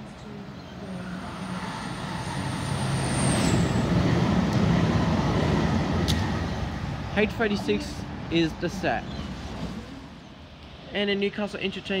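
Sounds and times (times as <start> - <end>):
train rumble and motor hum: 0.0 - 12.0.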